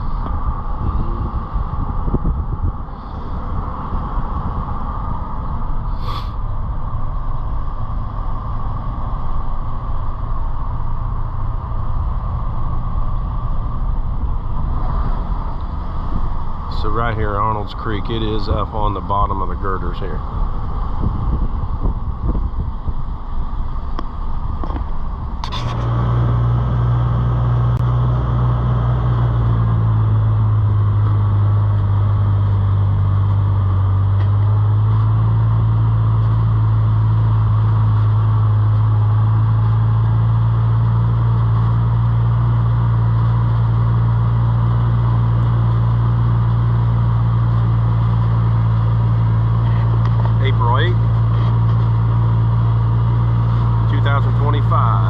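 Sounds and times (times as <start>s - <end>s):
vehicle engine starting and running: 0.0s - 55.0s.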